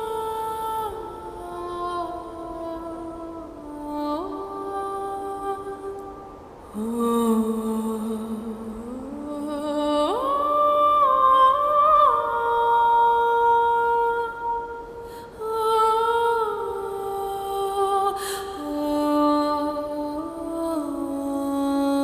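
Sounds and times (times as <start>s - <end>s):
wordless hummed melody: 0.0s - 22.0s.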